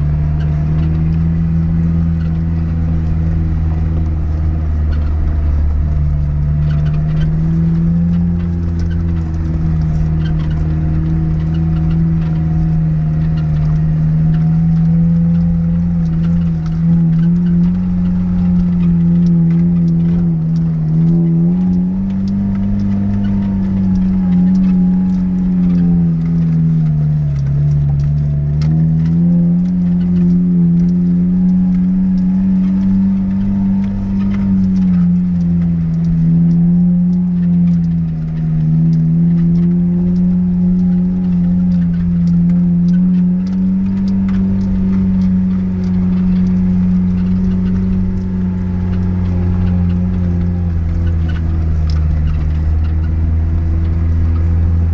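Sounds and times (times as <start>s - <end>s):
car engine pulling under load: 0.0s - 54.9s.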